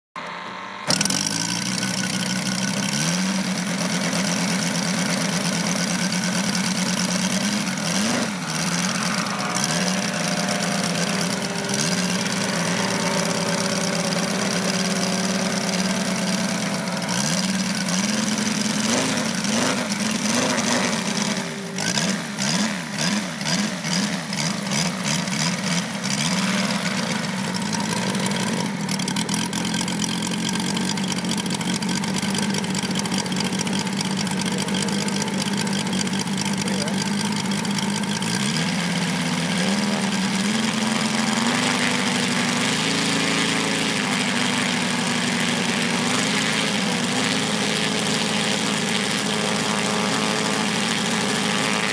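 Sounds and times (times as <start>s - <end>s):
model airplane engine idling: 0.2s - 51.9s.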